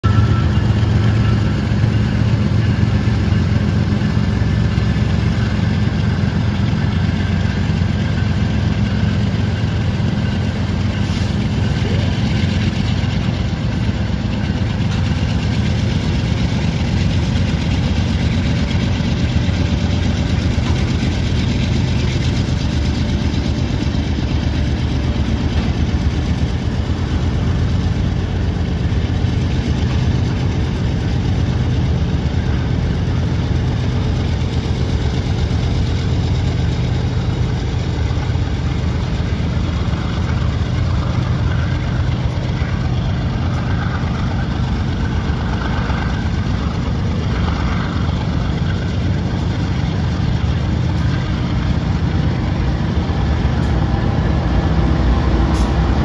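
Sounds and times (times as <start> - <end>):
locomotive engine rumble: 0.0 - 56.0
train cars rolling: 0.0 - 56.0.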